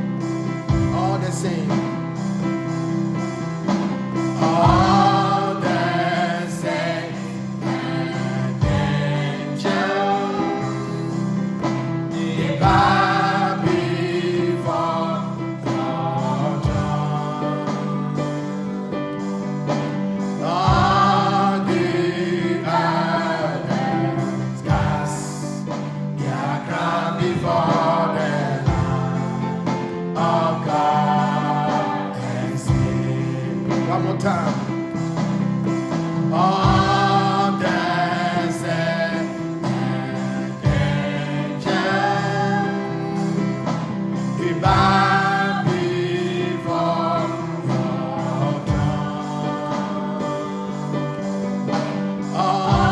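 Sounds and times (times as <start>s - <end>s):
group of singers: 0.0s - 52.9s.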